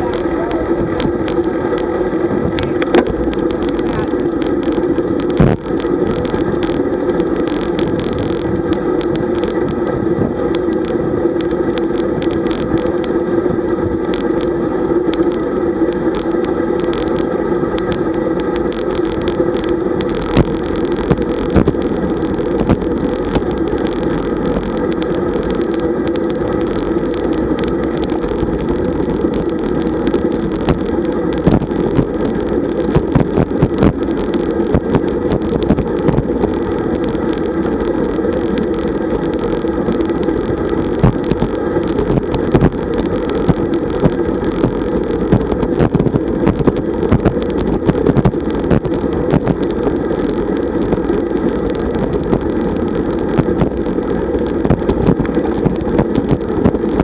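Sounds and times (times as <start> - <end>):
bike rattles and knocks: 0.0 - 13.2, 13.8 - 57.0
wind: 0.0 - 57.0.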